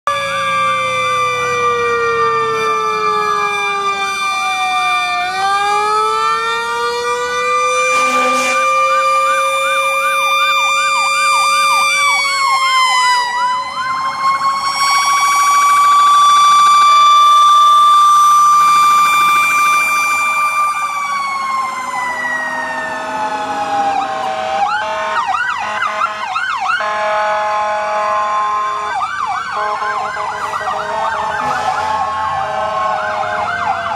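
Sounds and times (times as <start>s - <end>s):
sirens wailing: 0.0s - 33.9s
siren yelp: 0.1s - 33.9s.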